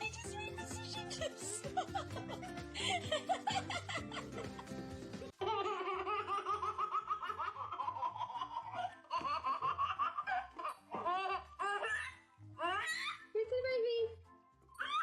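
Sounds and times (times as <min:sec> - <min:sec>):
background music with steady beat: 0:00.0 - 0:15.0
baby laughing: 0:00.8 - 0:13.3.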